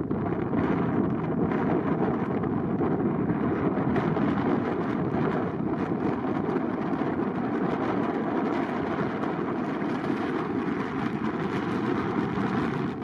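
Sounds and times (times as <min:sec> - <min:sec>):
turboprop engines at takeoff power: 0:00.0 - 0:13.0
wind buffeting microphone: 0:00.0 - 0:13.0.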